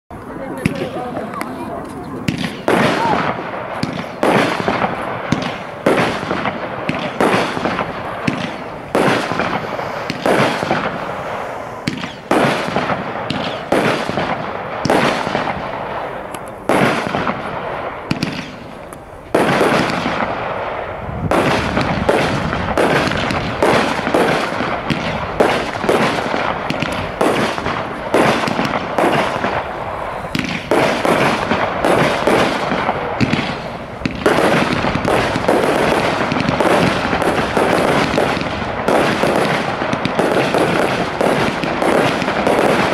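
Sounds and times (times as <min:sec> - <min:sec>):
firework cake bangs: 0:02.2 - 0:15.9, 0:16.7 - 0:18.7, 0:19.3 - 0:20.5, 0:21.2 - 0:29.7, 0:30.3 - 0:42.9.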